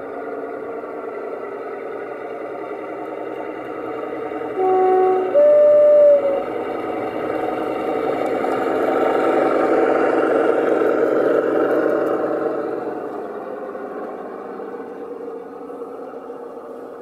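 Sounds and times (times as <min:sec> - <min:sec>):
model locomotive diesel engine: 0:00.0 - 0:17.0
wheel noise on rails: 0:00.0 - 0:17.0.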